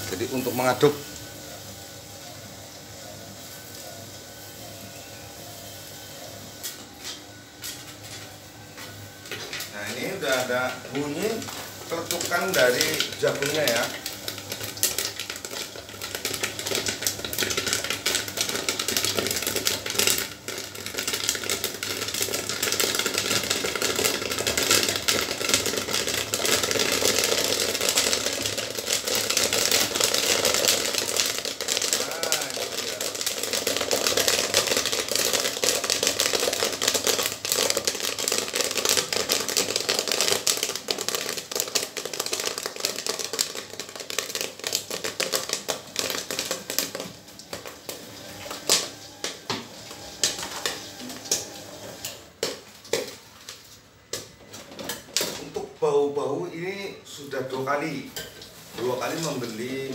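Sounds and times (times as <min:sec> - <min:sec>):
popcorn popping in kettle: 0:00.0 - 0:59.9.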